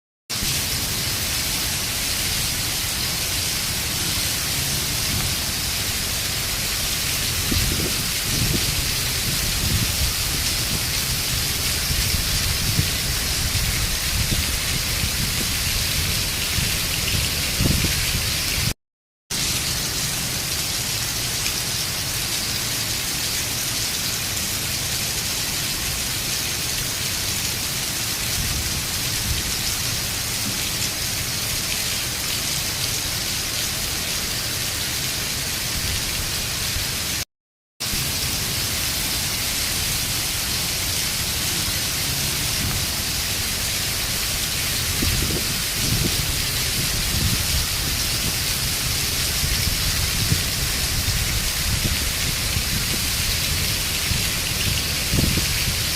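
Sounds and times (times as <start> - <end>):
heavy rain pouring: 0.3 - 37.2, 37.8 - 55.9.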